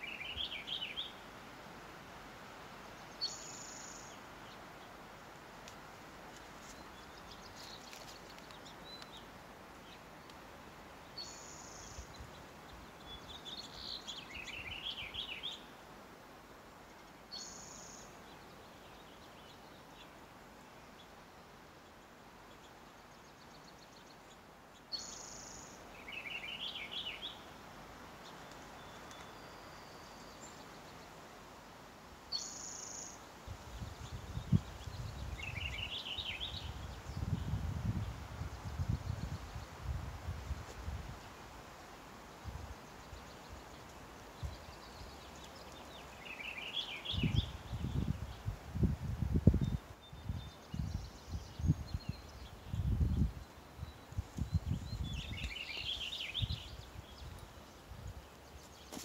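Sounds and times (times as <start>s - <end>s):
faint background hiss: 0.0s - 59.0s
songbirds chirping: 0.0s - 59.0s.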